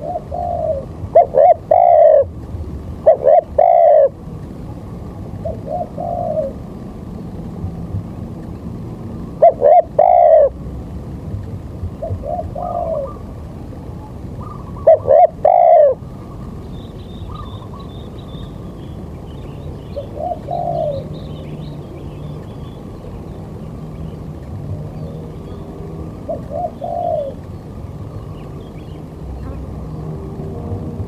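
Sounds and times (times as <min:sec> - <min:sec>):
bird calling in low phrases: 0:00.0 - 0:07.6, 0:09.2 - 0:10.9, 0:11.9 - 0:31.0
low background noise: 0:00.0 - 0:31.0.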